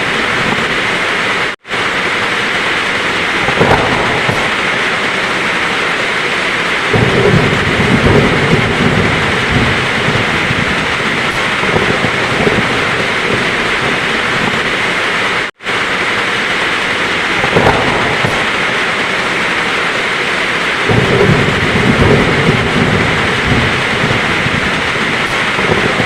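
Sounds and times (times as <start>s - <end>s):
heavy rain falling: 0.0s - 26.0s
thunder rumbling: 0.0s - 26.0s.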